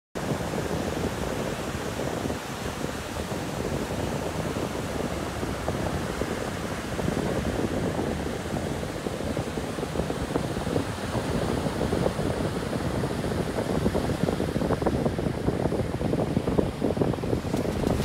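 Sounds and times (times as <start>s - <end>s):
wind buffeting microphone: 0.2s - 18.0s.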